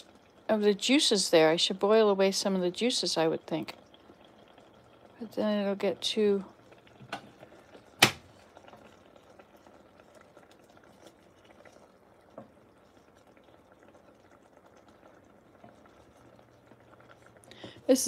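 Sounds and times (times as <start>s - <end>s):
fish bubbling in butter: 0.0s - 18.0s.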